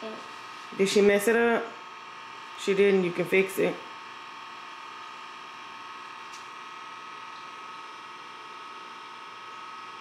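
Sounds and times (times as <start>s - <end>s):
electrical hum with high whine: 0.0s - 10.0s.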